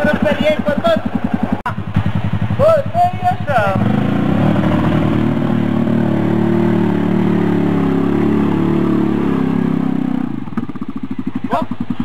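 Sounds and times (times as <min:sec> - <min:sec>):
atv engine revving under load: 0:00.0 - 0:12.0.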